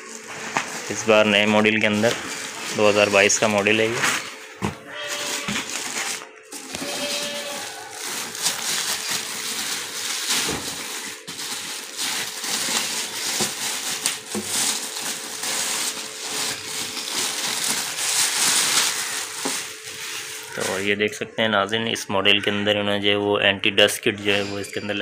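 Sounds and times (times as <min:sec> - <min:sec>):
plastic wrap crinkling: 0:00.0 - 0:20.9.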